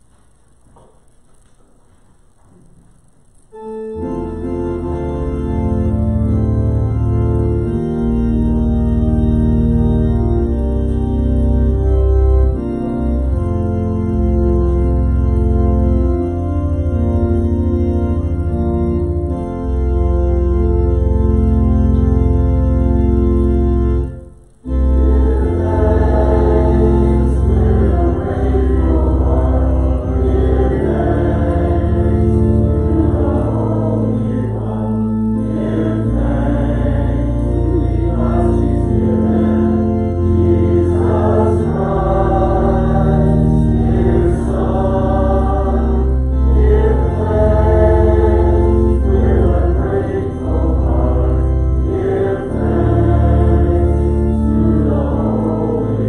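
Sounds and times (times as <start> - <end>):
church organ hymn chords: 0.0 - 56.0.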